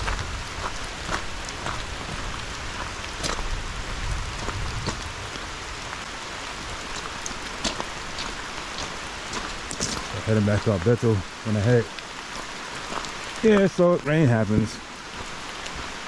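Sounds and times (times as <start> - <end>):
heavy rain on foliage: 0.0 - 16.0.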